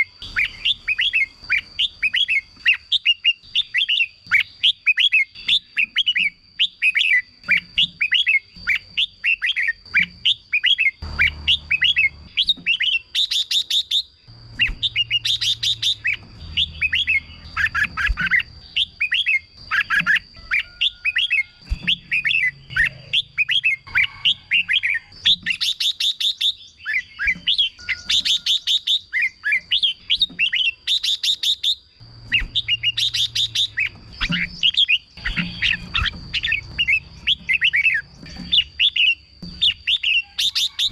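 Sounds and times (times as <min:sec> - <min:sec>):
bulbuls singing: 0:00.0 - 0:40.9.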